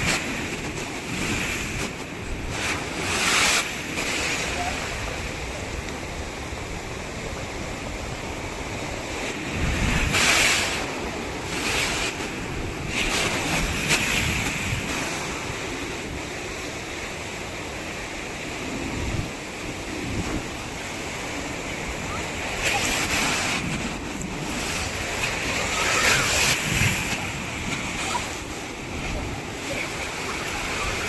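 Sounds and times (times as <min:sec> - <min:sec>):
ocean surf on beach: 0:00.0 - 0:31.0
wind buffeting microphone: 0:00.0 - 0:31.0.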